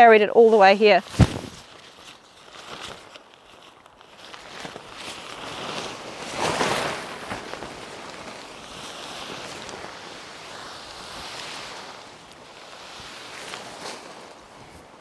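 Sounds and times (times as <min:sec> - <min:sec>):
tent fabric rustling on grass: 0:00.0 - 0:15.0.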